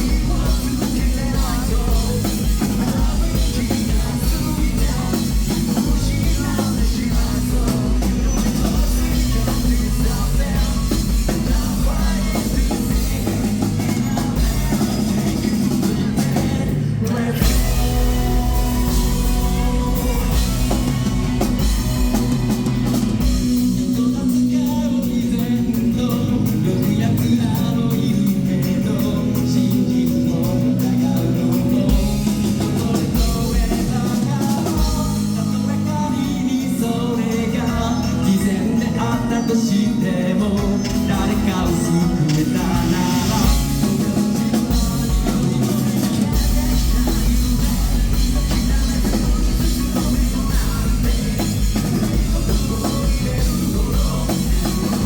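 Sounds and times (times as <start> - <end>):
bass drum: 0.0 - 35.7, 40.6 - 55.0
live rock band playing: 0.0 - 55.0
person singing: 0.0 - 55.0.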